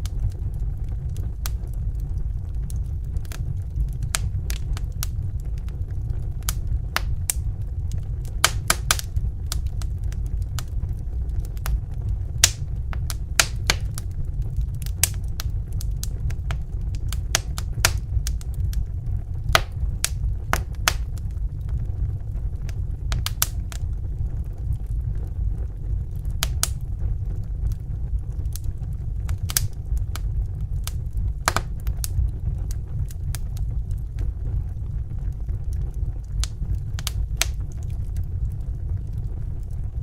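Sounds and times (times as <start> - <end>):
log fire crackling: 0.0 - 40.0.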